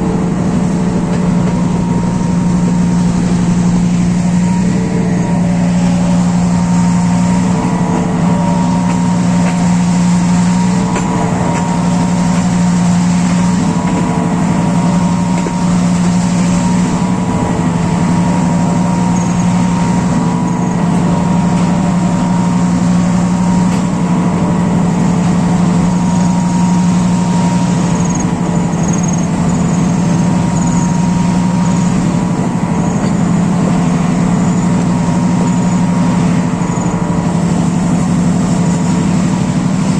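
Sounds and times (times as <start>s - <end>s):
diesel locomotive engine droning: 0.0s - 39.9s
thin engine whine: 0.0s - 39.9s.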